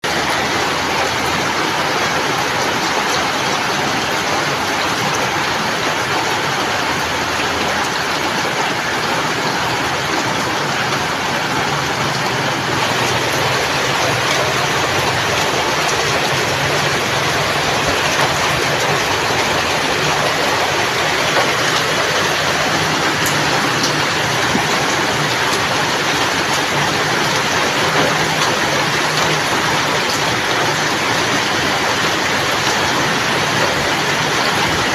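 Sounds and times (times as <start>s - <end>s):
heavy rain: 0.0s - 34.9s.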